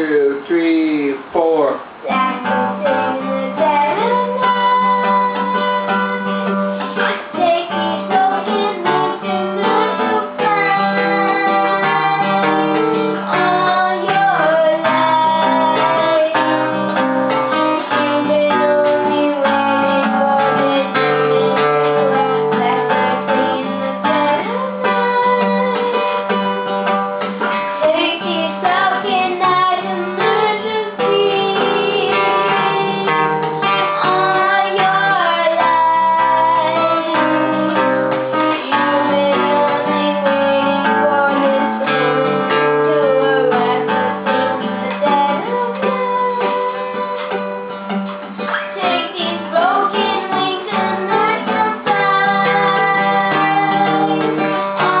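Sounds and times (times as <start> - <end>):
fingerpicked acoustic guitar: 1.8 - 55.0
woman singing: 2.0 - 26.6, 27.7 - 47.8, 48.4 - 55.0.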